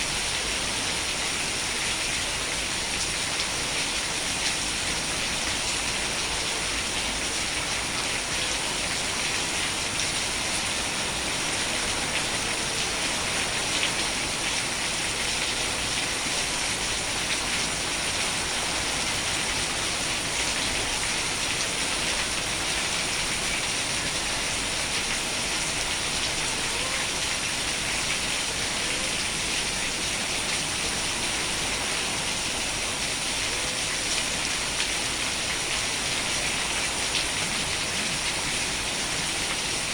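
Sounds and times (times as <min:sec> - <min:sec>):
raindrops hitting a surface: 0:00.0 - 0:39.9
steady rain hiss: 0:00.0 - 0:39.9.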